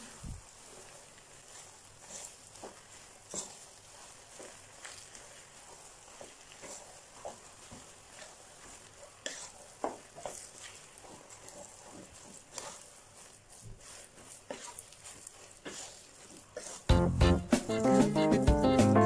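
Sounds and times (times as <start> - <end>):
wooden spatula scraping pot: 0.0 - 18.4.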